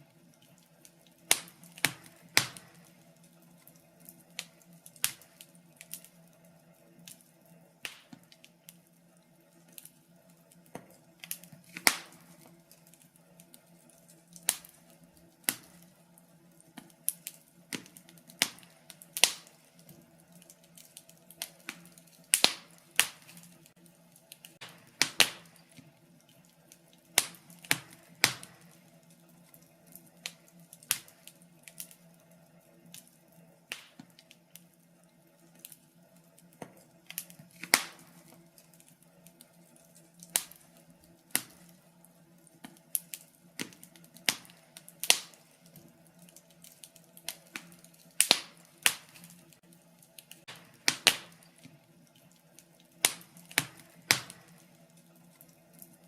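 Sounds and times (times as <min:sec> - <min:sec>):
faint steady hum: 0:00.0 - 0:56.0
fireplace fire crackling: 0:00.0 - 0:56.0.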